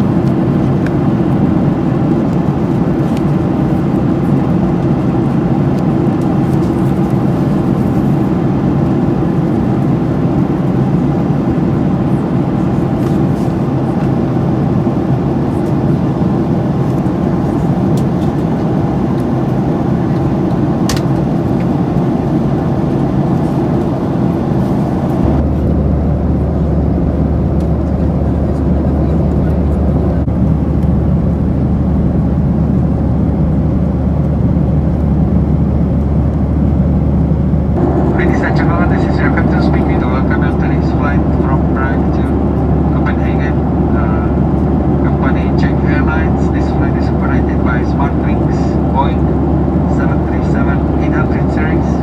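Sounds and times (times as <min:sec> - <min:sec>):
airplane cabin engine roar: 0:00.0 - 0:52.0
deep low hum: 0:06.2 - 0:52.0.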